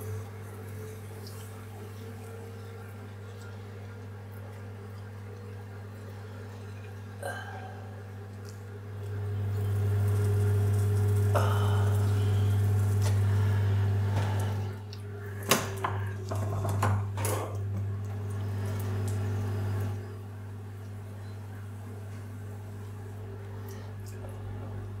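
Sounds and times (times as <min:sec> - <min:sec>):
potter's wheel humming: 0:00.0 - 0:25.0.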